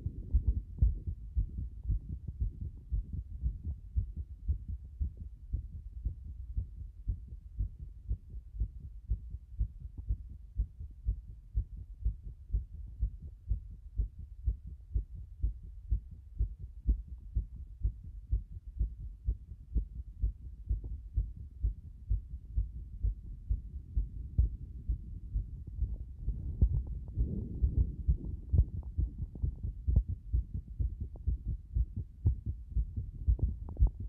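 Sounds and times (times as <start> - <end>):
fast heartbeat thumps: 0.0 - 34.0.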